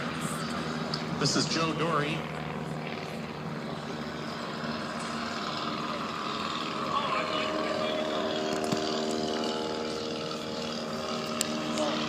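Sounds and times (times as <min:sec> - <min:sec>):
propeller airplane engine: 0:00.0 - 0:12.0.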